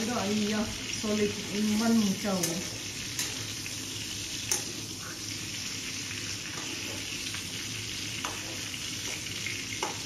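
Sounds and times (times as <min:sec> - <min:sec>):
meat sizzling in a hot pan: 0:00.0 - 0:10.0.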